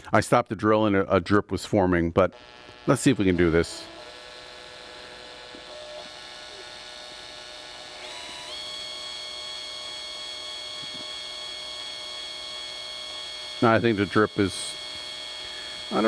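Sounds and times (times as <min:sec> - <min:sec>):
cordless drill whining: 0:02.3 - 0:16.0.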